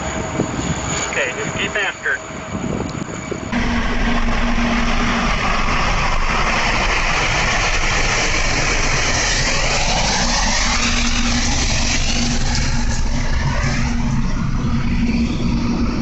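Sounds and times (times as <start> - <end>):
locomotive drone: 0.0 - 16.0
rising tone: 3.2 - 16.0.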